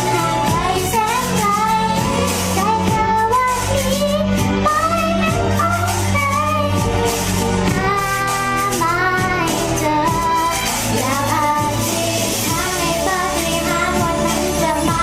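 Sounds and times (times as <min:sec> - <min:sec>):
child singing with vibrato: 0:00.0 - 0:15.0
pop ballad instrumental backing: 0:00.0 - 0:15.0.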